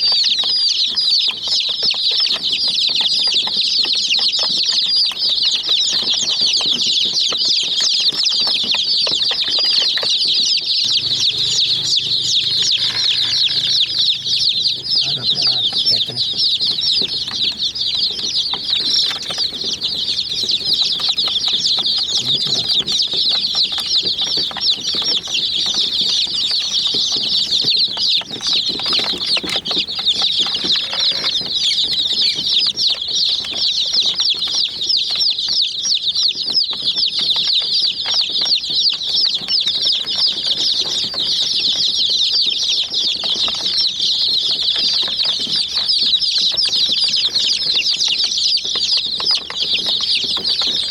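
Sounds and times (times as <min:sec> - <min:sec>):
chicks chirping: 0:00.0 - 0:50.9.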